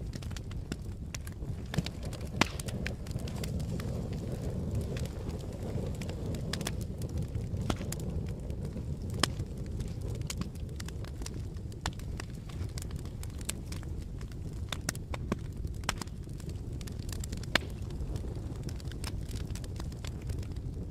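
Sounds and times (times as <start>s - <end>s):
campfire crackling and popping: 0.0s - 20.9s.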